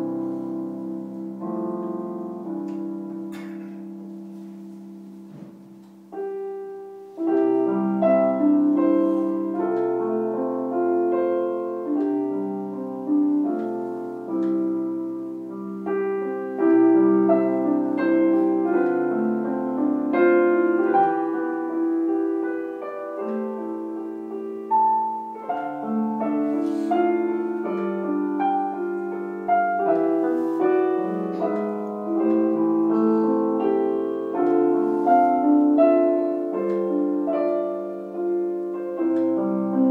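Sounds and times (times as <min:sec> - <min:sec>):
slow solo piano: 0:00.0 - 0:39.9.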